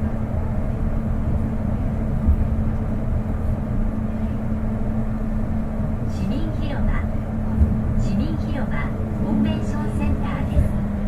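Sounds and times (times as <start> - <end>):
train car running rumble: 0.0 - 11.0.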